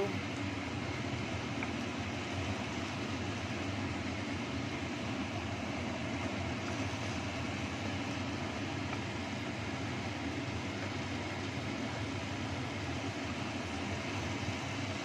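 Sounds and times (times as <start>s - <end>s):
extractor fan air rush: 0.0s - 15.0s.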